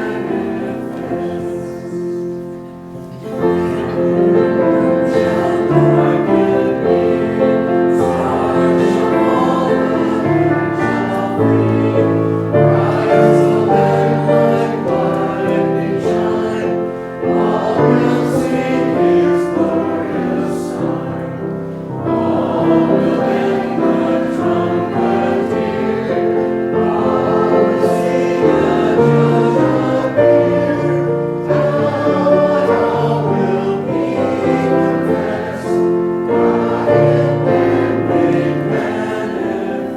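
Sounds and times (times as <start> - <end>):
keyboard accompaniment: 0.0 - 39.9
people singing a hymn: 0.0 - 39.9.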